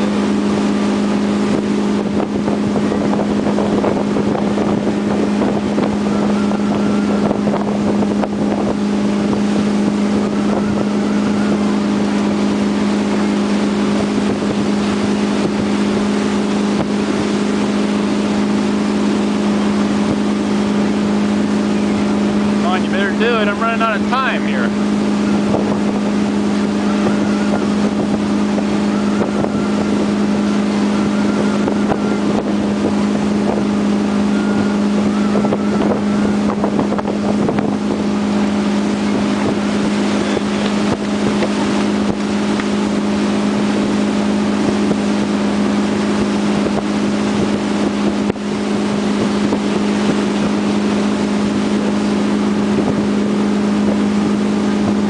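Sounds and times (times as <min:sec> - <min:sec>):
boat engine drone: 0:00.0 - 0:55.0
rushing water: 0:00.0 - 0:55.0
wind: 0:00.0 - 0:55.0.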